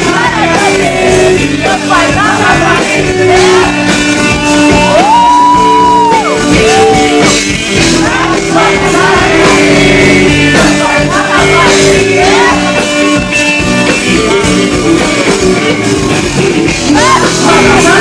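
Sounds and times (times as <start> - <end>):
rock song with singing: 0.0 - 18.0.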